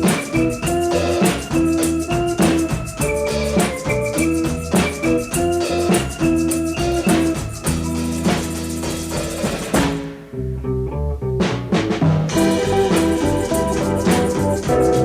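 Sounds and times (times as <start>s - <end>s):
upbeat song with drums and keyboard: 0.0s - 10.2s, 12.0s - 15.0s.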